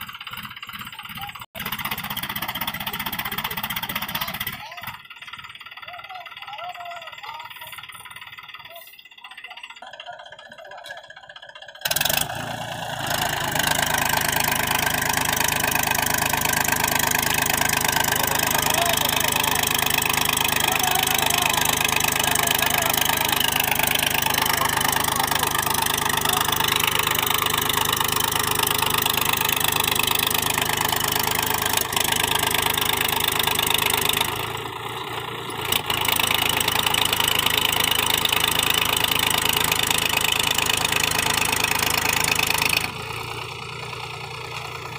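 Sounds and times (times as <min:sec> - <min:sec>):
diesel tractor engine under load: 0:00.0 - 0:44.9.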